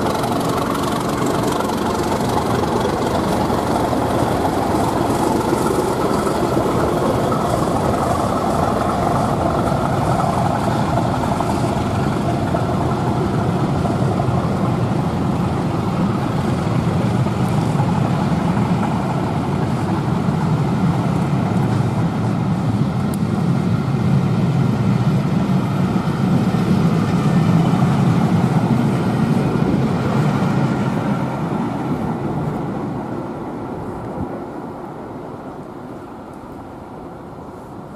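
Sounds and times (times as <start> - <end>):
diesel locomotive engine drone: 0.0 - 37.9.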